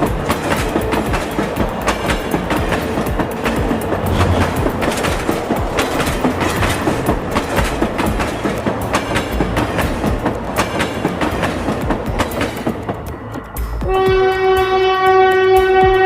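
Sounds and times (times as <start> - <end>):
train running rumble: 0.0 - 16.0
train wheels clickety-clack: 0.0 - 16.0.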